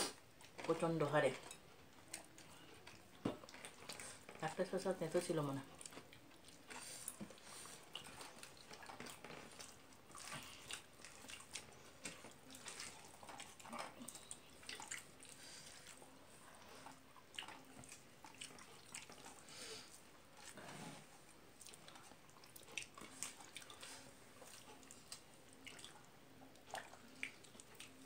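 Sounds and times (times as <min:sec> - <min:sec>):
wet chewing and mouth smacking: 0:01.5 - 0:04.4, 0:05.7 - 0:20.6, 0:21.2 - 0:28.0.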